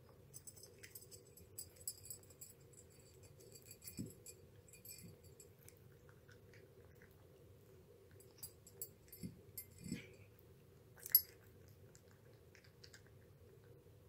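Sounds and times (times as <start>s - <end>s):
cat chewing: 0.7s - 14.0s.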